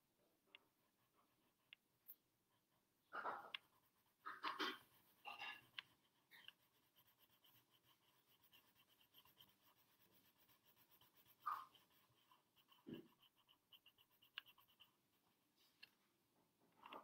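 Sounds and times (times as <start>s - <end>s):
pencil scratching on paper: 0.4s - 16.0s.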